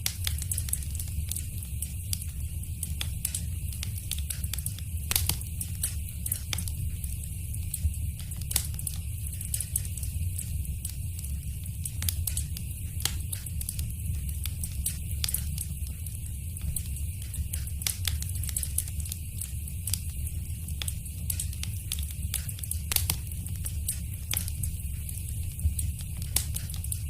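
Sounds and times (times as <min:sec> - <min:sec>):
fire crackling and popping: 0:00.0 - 0:27.0
low fire rumble: 0:00.0 - 0:27.0.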